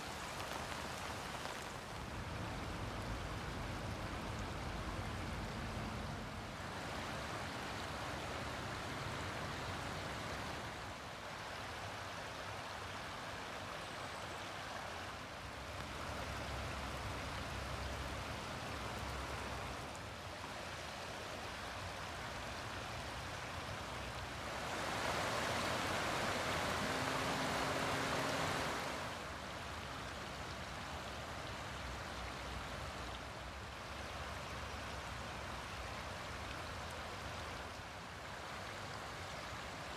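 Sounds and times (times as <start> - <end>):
creek running over stones: 0.0 - 39.9.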